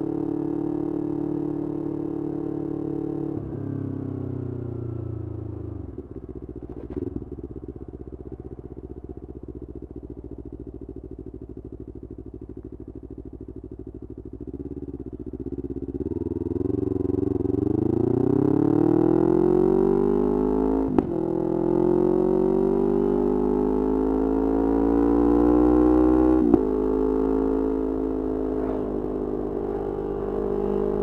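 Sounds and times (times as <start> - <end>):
motorcycle engine revving and idling: 0.0 - 31.0.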